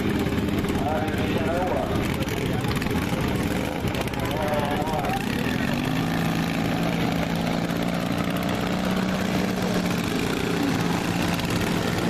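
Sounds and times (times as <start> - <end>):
racing lawn mower engines: 0.0 - 12.0.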